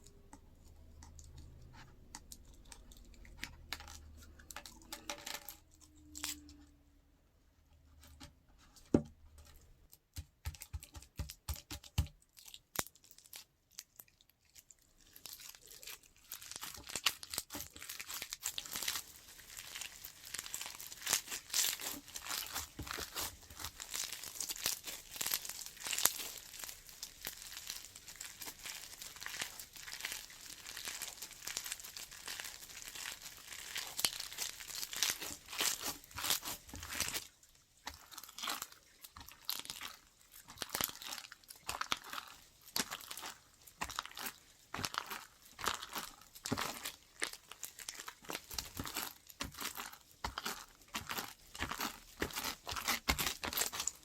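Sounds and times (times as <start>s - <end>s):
hands squishing slime: 8.8s - 54.0s
slime crackling and popping: 9.4s - 54.0s.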